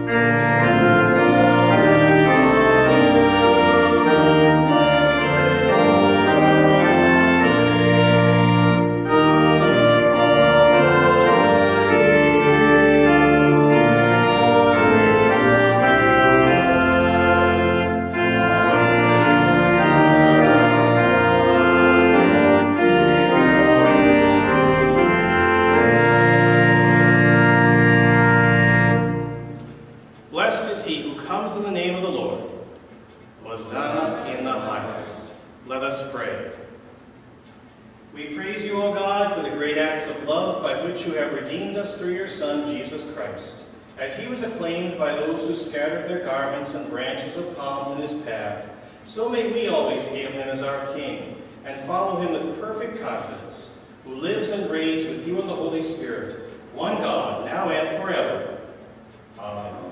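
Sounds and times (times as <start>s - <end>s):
church organ playing a hymn: 0.0s - 36.8s, 37.8s - 59.9s.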